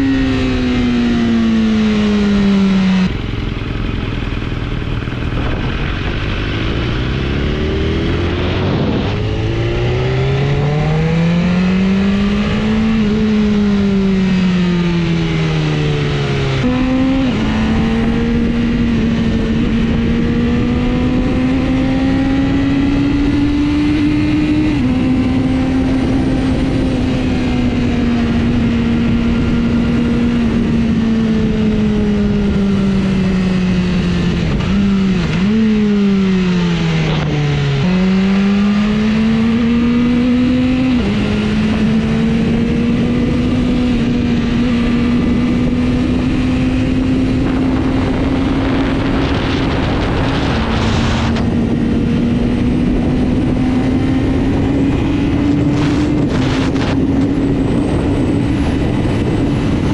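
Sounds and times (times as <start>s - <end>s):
motorcycle engine revving: 0.0s - 59.9s
road and wind noise: 0.0s - 59.9s.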